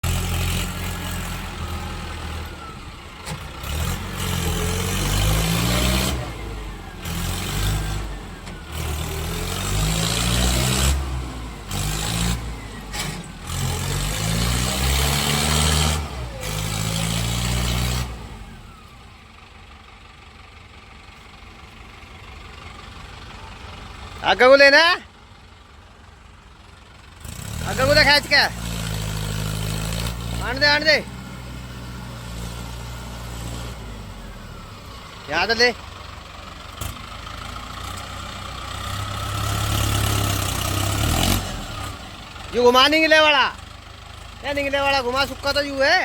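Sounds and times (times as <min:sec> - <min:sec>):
heavy diesel engines revving: 0:00.0 - 0:46.0.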